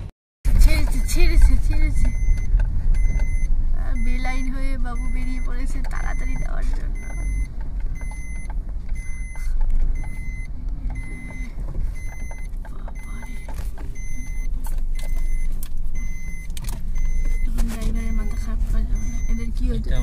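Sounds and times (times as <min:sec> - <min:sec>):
car engine and road rumble: 0:00.0 - 0:20.0
faint high beep: 0:01.9 - 0:20.0.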